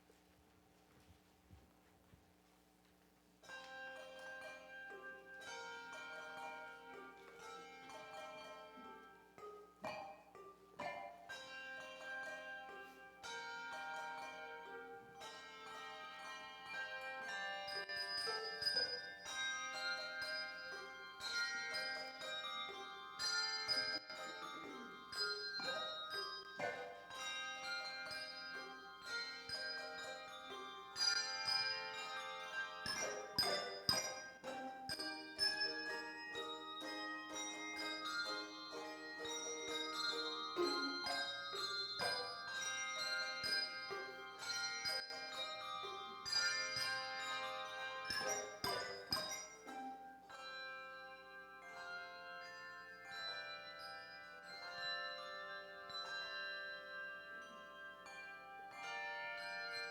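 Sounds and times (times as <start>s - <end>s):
handbell choir playing: 3.4s - 59.9s.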